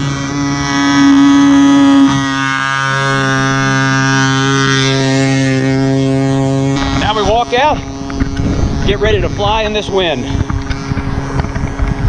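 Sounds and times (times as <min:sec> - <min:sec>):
model plane engine running: 0:00.0 - 0:12.0.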